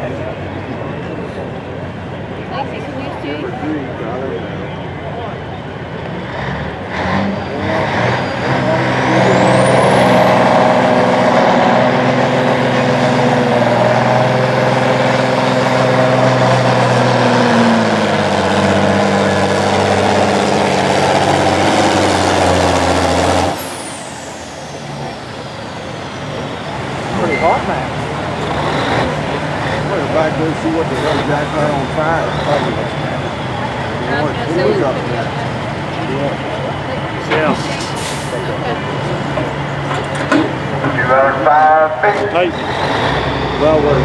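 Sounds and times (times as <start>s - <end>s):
truck engine at high revs: 3.8s - 44.0s.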